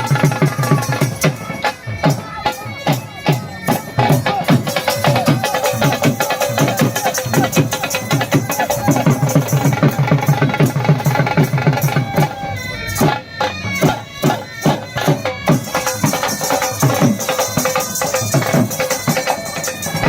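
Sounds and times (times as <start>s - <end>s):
drumbeats: 0.0s - 20.0s.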